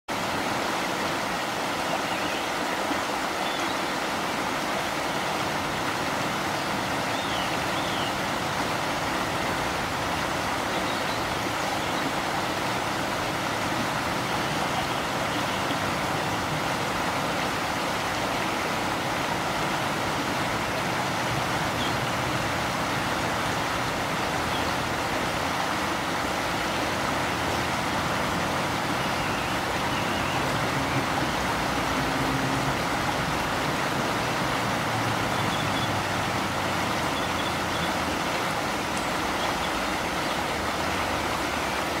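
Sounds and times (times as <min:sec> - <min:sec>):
river water rushing: 0:00.1 - 0:42.0.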